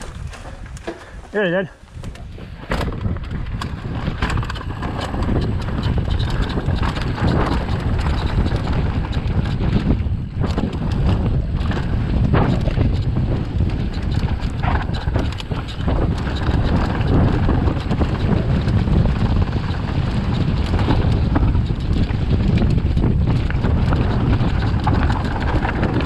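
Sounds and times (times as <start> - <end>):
bike clattering over stones: 0.0 - 26.0
wind rumble on microphone: 0.0 - 26.0.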